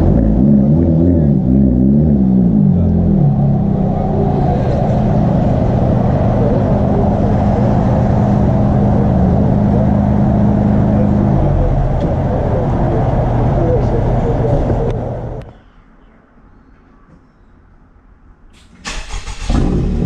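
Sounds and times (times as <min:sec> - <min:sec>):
car engine through loud exhaust: 0:00.0 - 0:15.5, 0:18.8 - 0:20.0.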